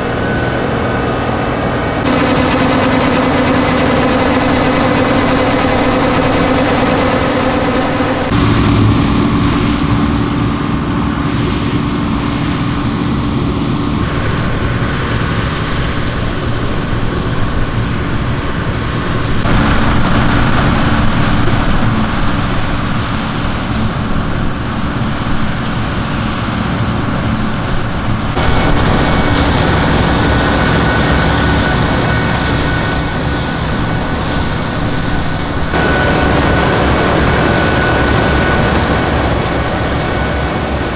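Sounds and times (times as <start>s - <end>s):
mechanical drone of threshing works: 0.0s - 14.8s, 19.3s - 40.9s
diesel engine running under load: 0.0s - 40.9s.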